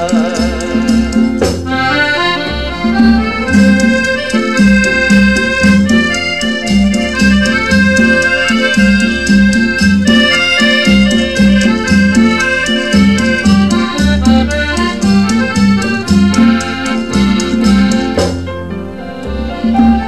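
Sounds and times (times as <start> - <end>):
band instrumental from vinyl record: 0.0 - 20.0.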